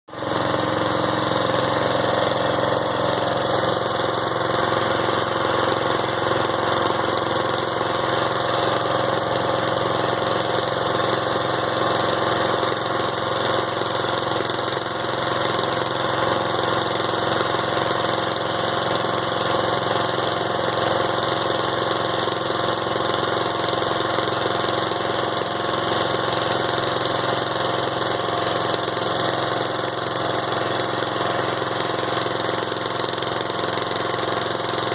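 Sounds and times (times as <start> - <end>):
lawnmower engine running: 0.1 - 34.9.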